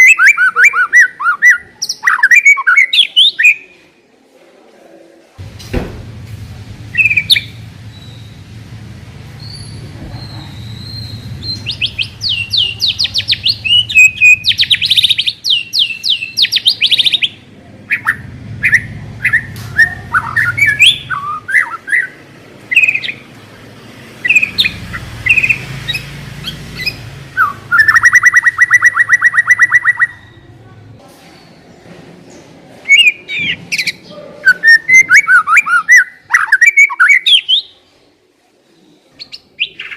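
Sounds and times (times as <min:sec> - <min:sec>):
songbird singing: 0:00.0 - 0:03.9, 0:06.5 - 0:37.8.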